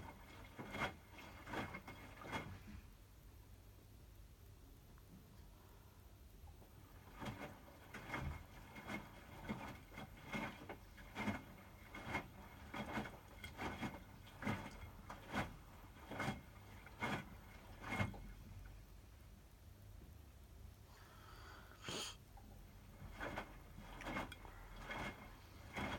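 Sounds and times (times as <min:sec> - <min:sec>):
washing machine hum: 0:00.0 - 0:25.9.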